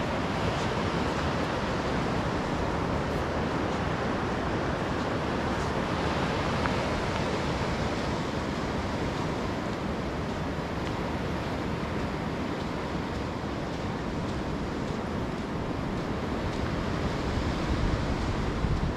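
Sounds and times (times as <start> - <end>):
wind on microphone: 0.0 - 18.9.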